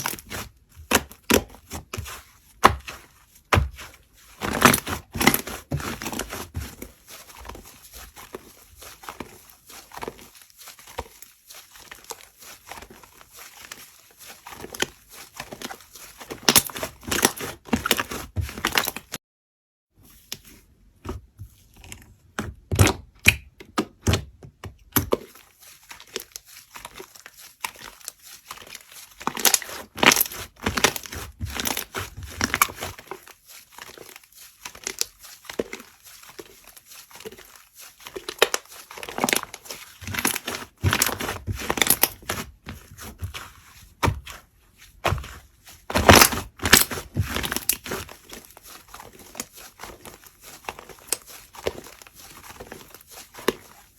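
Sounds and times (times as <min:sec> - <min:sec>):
slime squishing and crackling: 0:00.0 - 0:19.2, 0:21.1 - 0:53.9.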